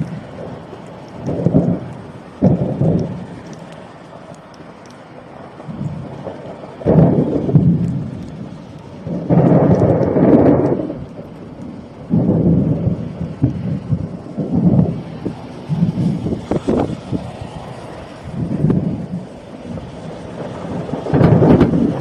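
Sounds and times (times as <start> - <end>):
thunder rolling: 0.0 - 4.8, 5.4 - 22.0
rain hiss: 0.0 - 22.0.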